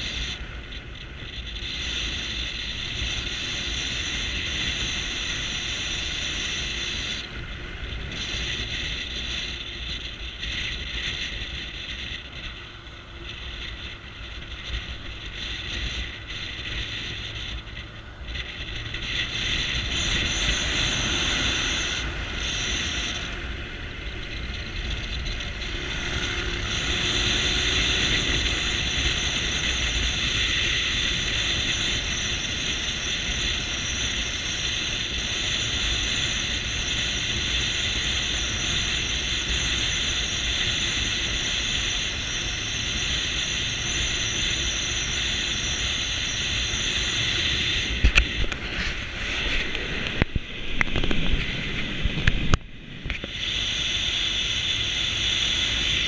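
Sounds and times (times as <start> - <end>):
motorcycle engine: 0.0 - 56.0
wind rushing on microphone: 0.0 - 56.0.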